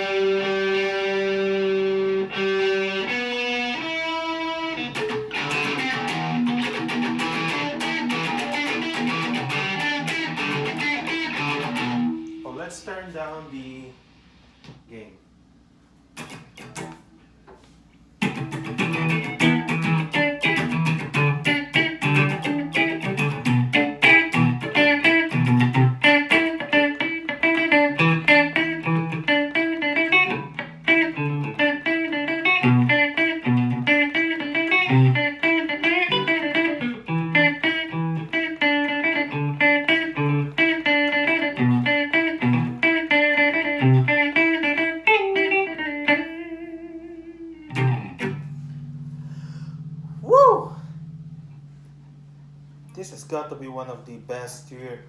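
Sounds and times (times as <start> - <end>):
electric guitar picked notes: 0.0 - 12.5, 18.2 - 52.9.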